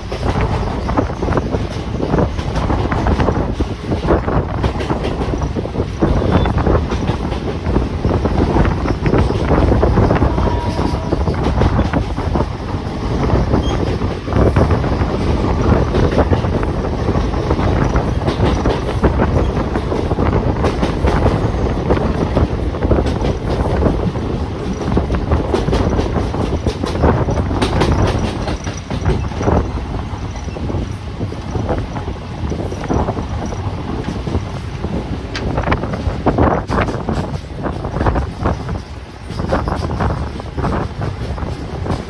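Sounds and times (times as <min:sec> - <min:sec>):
train rumble: 0:00.0 - 0:42.0
wheels clacking over rail joints: 0:00.0 - 0:42.0
wind rushing past: 0:00.0 - 0:42.0.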